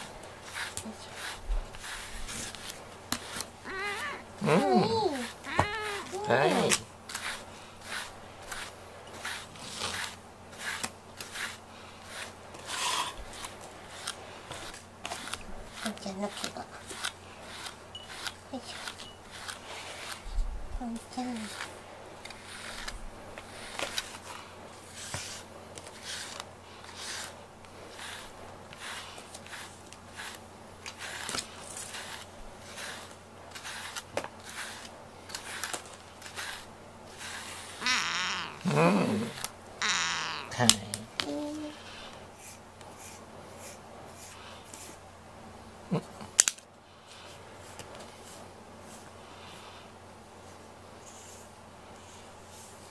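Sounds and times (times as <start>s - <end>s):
brush scratching through cat fur: 0.0s - 45.1s, 47.0s - 52.9s.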